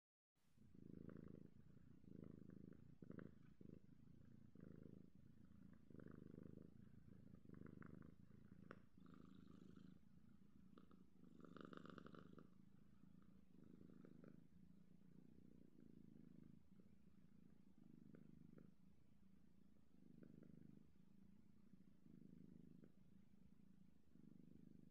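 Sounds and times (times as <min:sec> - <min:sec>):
kitten purring: 0:00.5 - 0:24.9.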